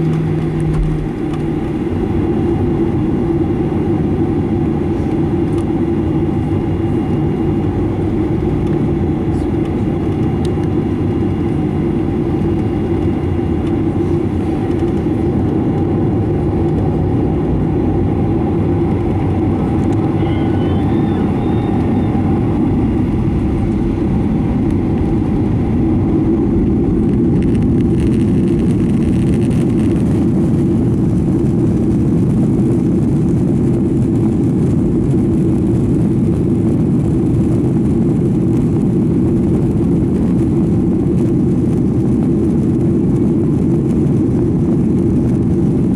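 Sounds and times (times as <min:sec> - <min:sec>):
jet engine cabin rumble: 0:00.0 - 0:45.9.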